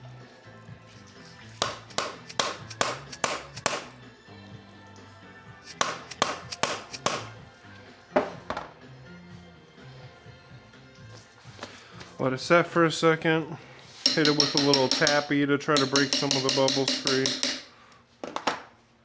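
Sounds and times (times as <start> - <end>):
background music: 0.0 - 17.8.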